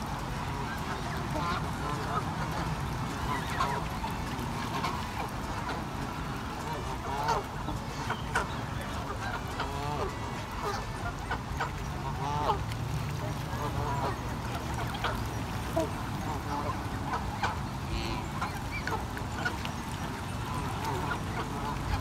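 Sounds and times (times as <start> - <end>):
geese honking: 0.5 - 5.9, 6.6 - 22.0.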